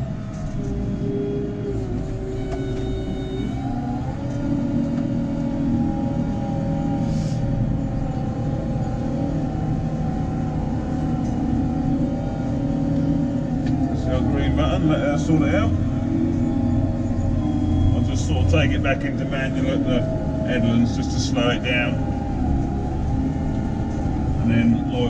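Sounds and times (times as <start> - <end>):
diesel tractor engine droning: 0.0 - 25.0.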